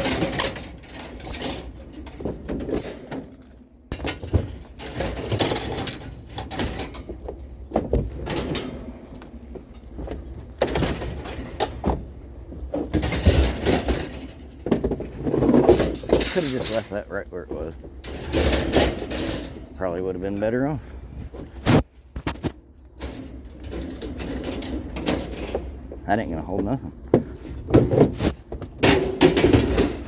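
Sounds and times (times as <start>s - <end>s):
scrap metal knocking and rattling: 0.0s - 30.0s.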